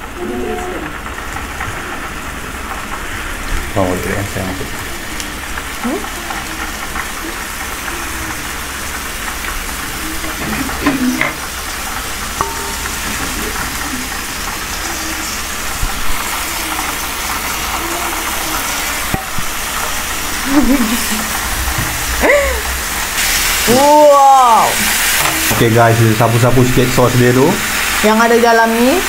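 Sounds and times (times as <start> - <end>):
low even hum: 0.0 - 27.0
meat sizzling on a grill: 0.0 - 29.0.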